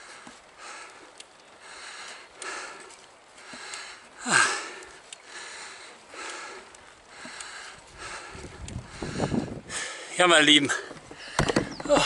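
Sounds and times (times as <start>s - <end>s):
person breathing heavily: 0.0s - 12.0s.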